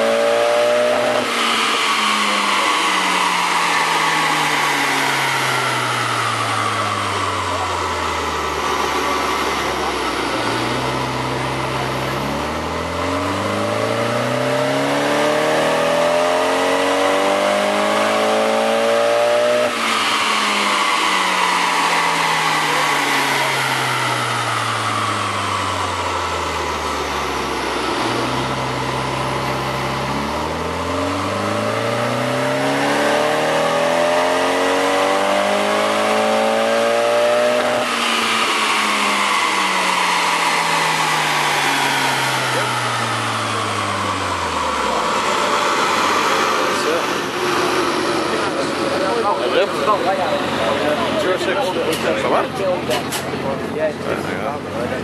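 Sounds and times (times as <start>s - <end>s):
car engine revving on a dyno: 0.0s - 55.0s.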